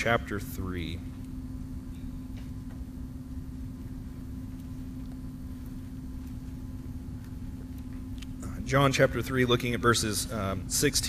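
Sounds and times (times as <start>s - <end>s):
electrical hum with low rumble: 0.0s - 11.0s.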